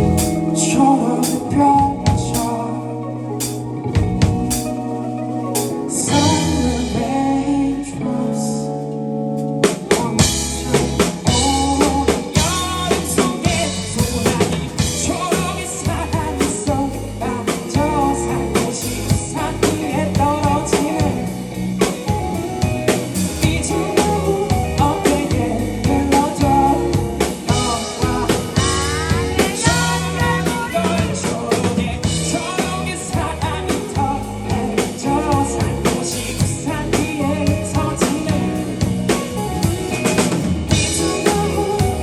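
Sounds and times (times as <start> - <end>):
person singing: 0.0 - 3.8, 4.7 - 9.0, 9.6 - 42.0
live pop-rock band: 0.0 - 42.0.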